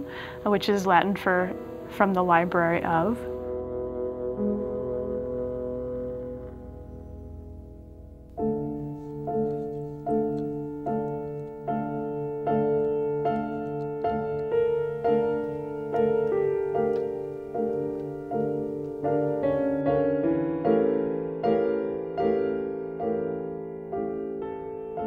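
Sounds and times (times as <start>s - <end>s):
soft piano chords: 0.0s - 25.0s.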